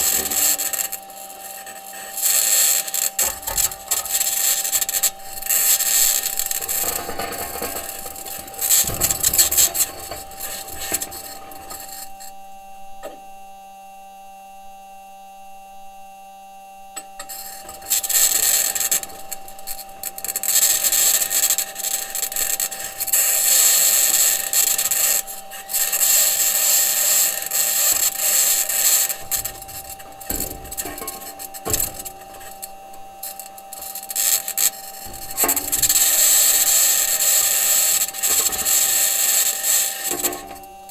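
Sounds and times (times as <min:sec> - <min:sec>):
metal wheels grinding over rocks: 0:00.0 - 0:12.4, 0:17.0 - 0:40.9
steady whining tone: 0:00.0 - 0:40.9.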